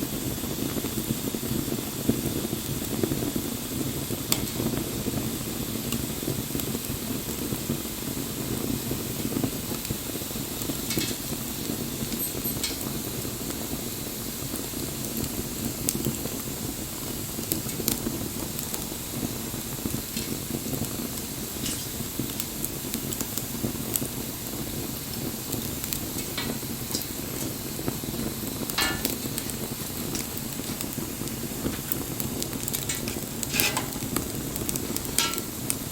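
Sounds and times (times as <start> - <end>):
bonfire flames hissing and rumbling: 0.0 - 35.9
burning wood crackling and popping: 0.0 - 35.9.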